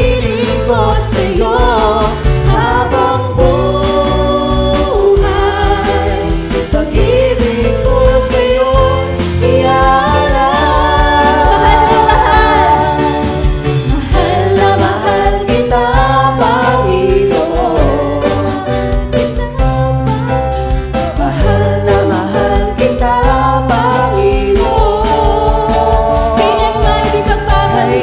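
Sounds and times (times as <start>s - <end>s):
singers singing praise song: 0.0s - 19.3s, 20.7s - 28.0s
bass guitar: 0.0s - 28.0s
keyboard: 0.0s - 28.0s.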